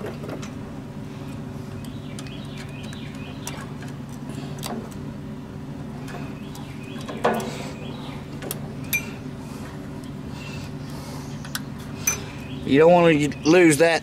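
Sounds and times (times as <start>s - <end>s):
low hum: 0.0s - 13.8s.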